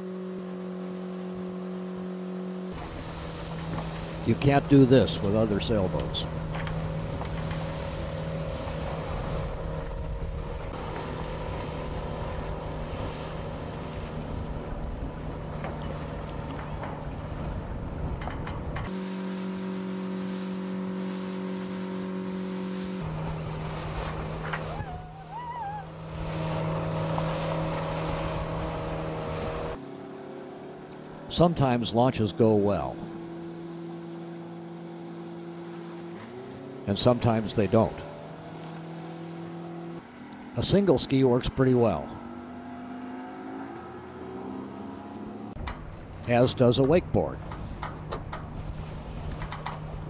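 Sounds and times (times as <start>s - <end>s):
outboard motor running: 0.0s - 50.0s
wind and water rushing: 2.7s - 50.0s.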